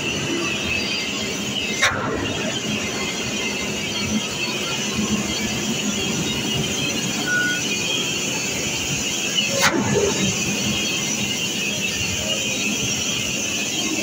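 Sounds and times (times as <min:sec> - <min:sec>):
brief falling squeal: 0:00.8 - 0:14.0.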